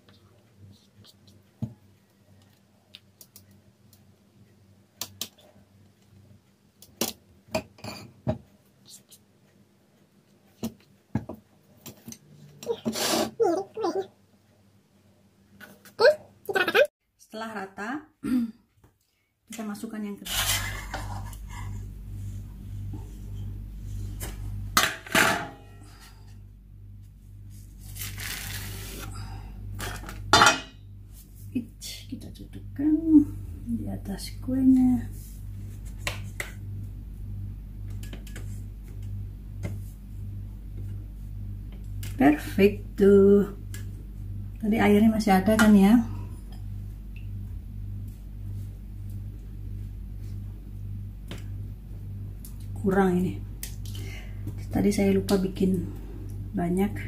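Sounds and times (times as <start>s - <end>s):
faint steady hum: 7.5s - 57.0s.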